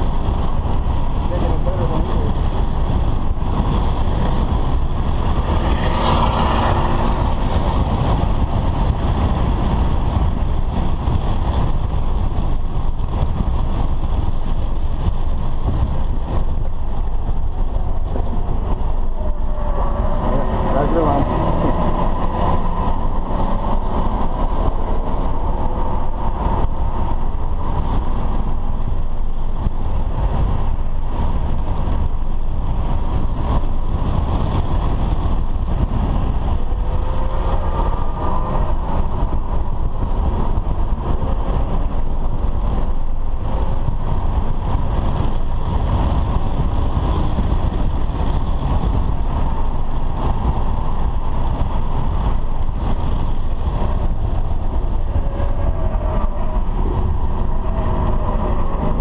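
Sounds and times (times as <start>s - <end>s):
car engine accelerating: 0.0s - 59.0s
tyre and wind rumble: 0.0s - 59.0s.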